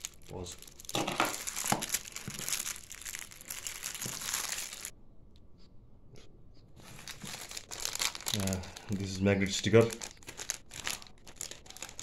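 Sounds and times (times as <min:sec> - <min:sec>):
plastic packaging crinkling: 0:00.0 - 0:04.9, 0:06.8 - 0:12.0.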